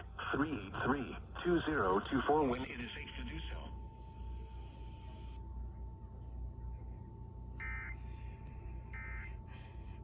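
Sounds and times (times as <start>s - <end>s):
faint steady tone and hum: 0.0s - 10.0s.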